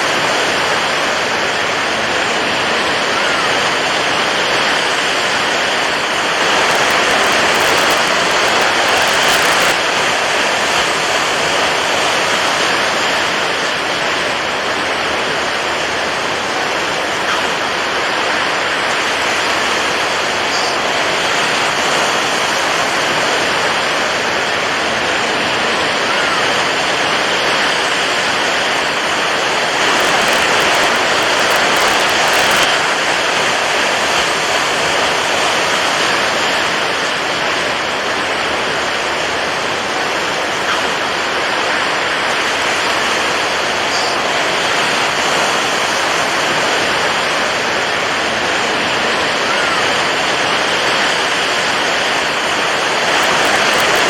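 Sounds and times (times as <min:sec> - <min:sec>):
water waves rushing: 0:00.0 - 0:54.0.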